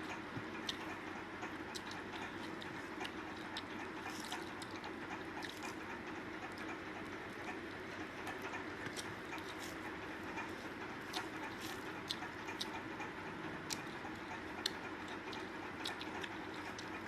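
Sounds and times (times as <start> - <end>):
background hum: 0.0 - 17.0
chewing and eating by hand: 0.0 - 17.0.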